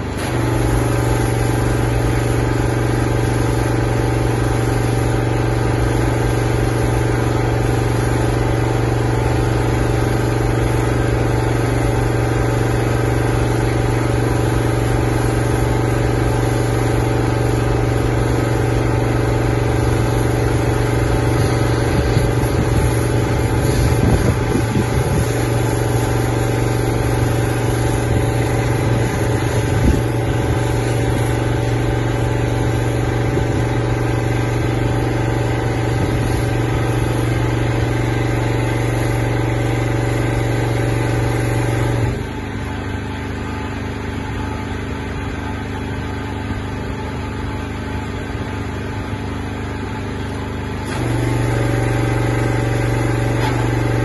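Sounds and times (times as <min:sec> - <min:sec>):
pressure washer engine droning: 0:00.0 - 0:54.0.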